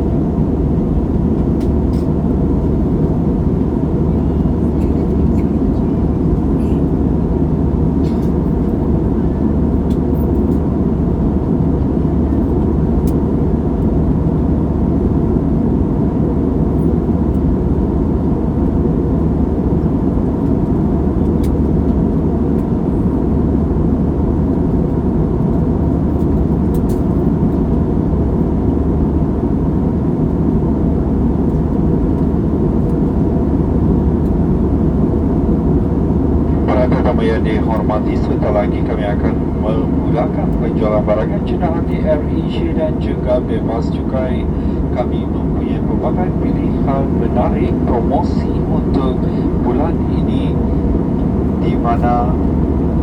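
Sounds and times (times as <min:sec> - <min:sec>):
jet engines humming: 0:00.0 - 0:53.0.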